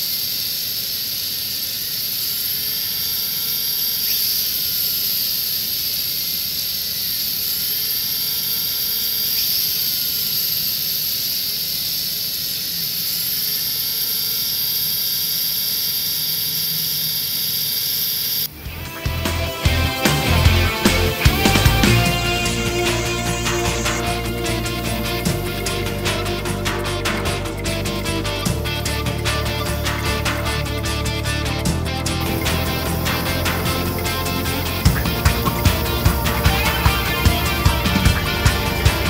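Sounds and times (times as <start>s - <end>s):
gyro spinning with high whine: 0.0s - 39.0s.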